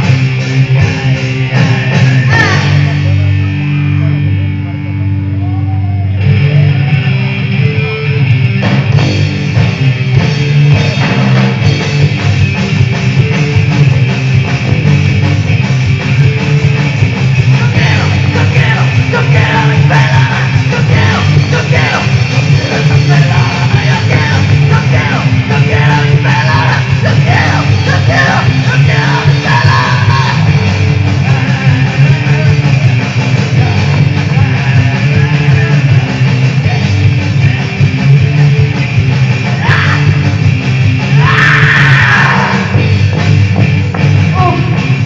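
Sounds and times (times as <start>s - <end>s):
punk rock band playing live: 0.0s - 45.0s.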